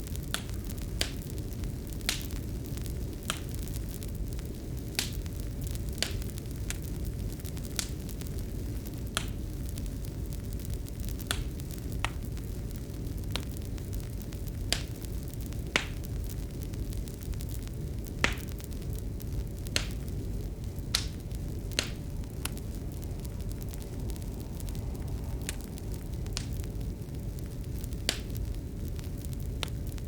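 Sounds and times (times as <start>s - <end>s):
faint steady hum: 0.0s - 30.0s
wood fire crackling: 0.0s - 30.0s.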